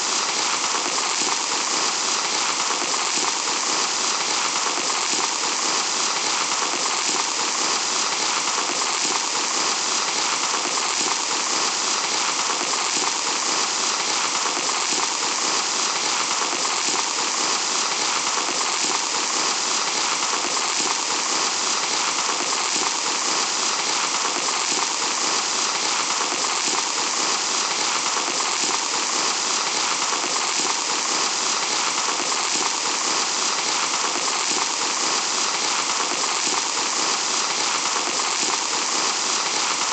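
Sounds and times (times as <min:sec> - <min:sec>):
fine sand pouring: 0:05.4 - 0:39.9.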